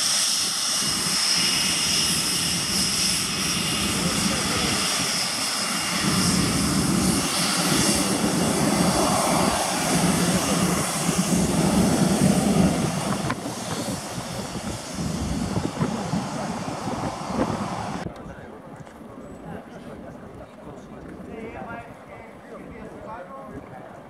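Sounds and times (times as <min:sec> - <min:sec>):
jet engine rumble with high whine: 0:00.0 - 0:24.0.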